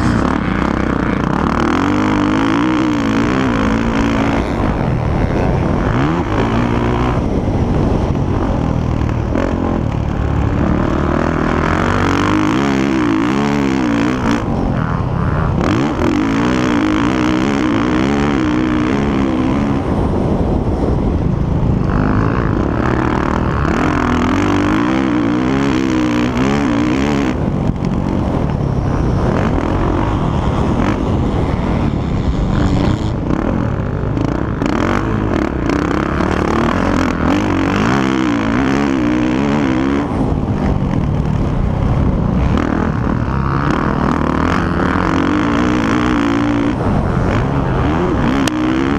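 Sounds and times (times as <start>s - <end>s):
constant engine din: 0.0s - 48.9s
motorcycle engines revving: 0.0s - 48.9s.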